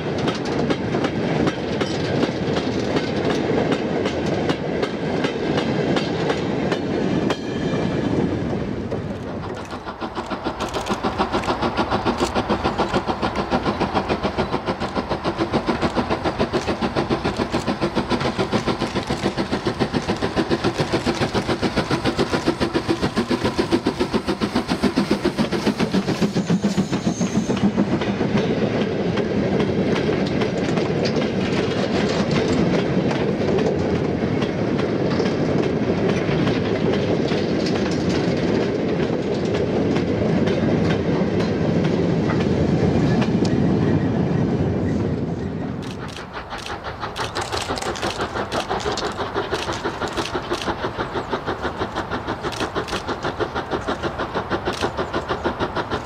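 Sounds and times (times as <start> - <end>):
steam locomotive exhaust beating: 0.0 - 56.0.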